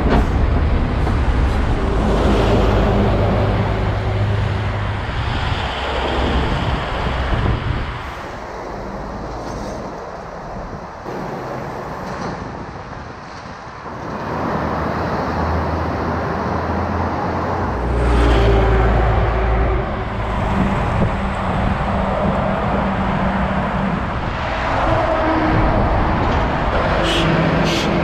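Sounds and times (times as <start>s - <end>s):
heavy road traffic: 0.0s - 28.0s
heavy vehicle engine rumble: 0.0s - 28.0s.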